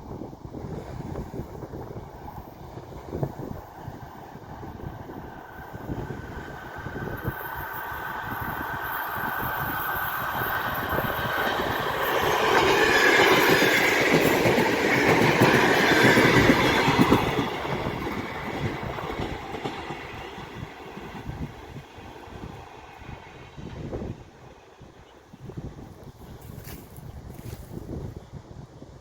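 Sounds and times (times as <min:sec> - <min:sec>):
train wheels on rails: 0:00.6 - 0:28.1.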